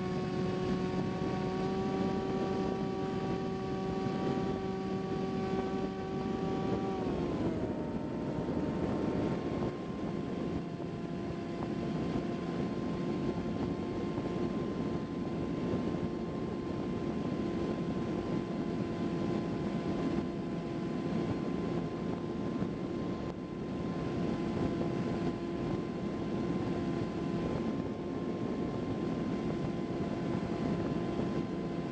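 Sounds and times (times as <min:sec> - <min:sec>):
electric motor whine: 0:00.0 - 0:31.9.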